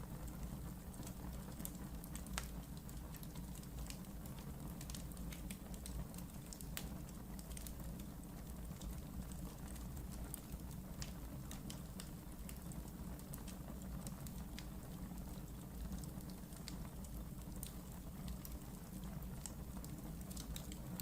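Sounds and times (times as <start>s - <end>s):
fire rumbling: 0.0s - 21.0s
logs crackling and popping: 0.2s - 21.0s.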